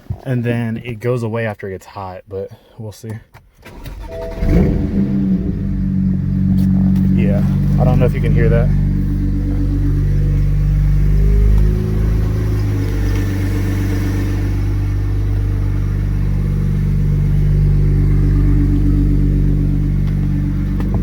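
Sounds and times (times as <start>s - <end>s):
car engine idling: 3.7s - 21.0s.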